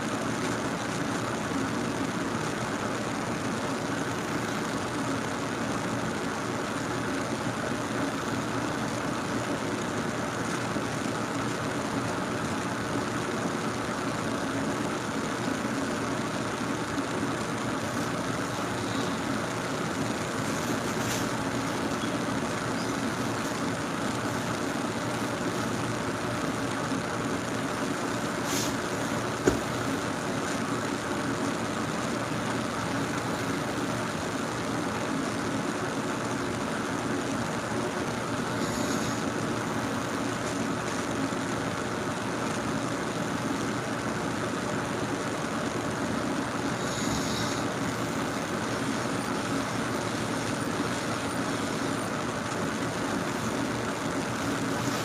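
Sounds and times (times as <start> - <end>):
steady droning noise: 0.0 - 55.0.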